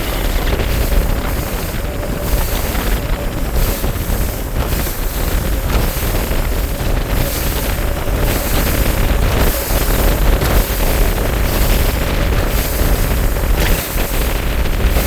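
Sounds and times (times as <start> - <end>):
outboard motor tone: 0.0 - 15.0
wind buffeting microphone: 0.0 - 15.0.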